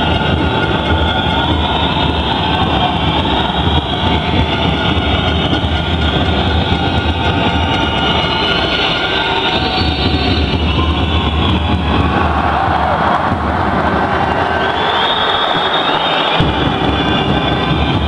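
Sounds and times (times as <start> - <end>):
crowd din in sports hall: 0.0 - 18.0.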